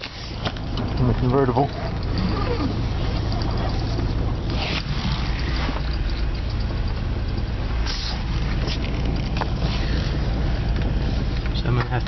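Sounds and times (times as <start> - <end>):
car engine with rod knock: 0.0 - 12.0.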